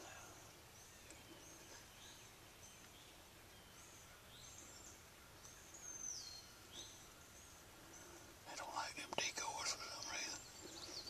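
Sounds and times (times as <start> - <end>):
songbirds calling: 0.0 - 11.0.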